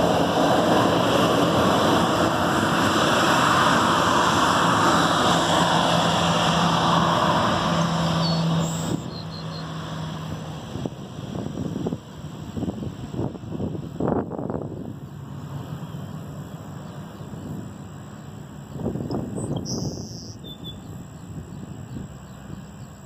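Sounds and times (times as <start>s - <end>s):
jet engines taxiing: 0.0s - 23.0s.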